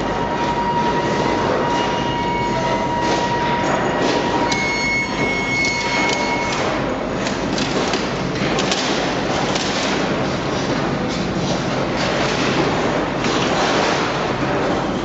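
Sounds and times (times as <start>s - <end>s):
heavy machinery rumbling and clattering: 2.9s - 15.0s.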